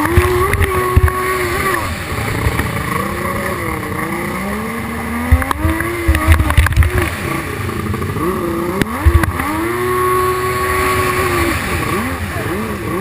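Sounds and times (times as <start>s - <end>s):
jet ski engine revving: 0.0s - 13.0s.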